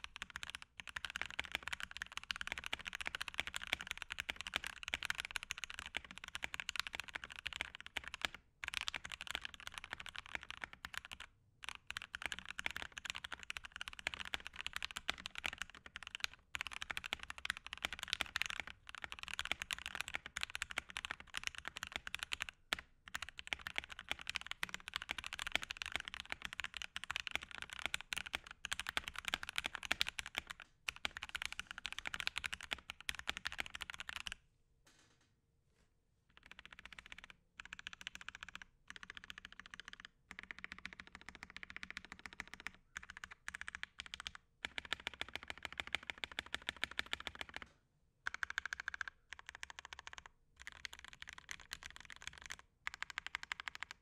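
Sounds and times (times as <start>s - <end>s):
mechanical keyboard typing: 0.0s - 34.4s, 36.3s - 47.7s, 48.3s - 54.0s.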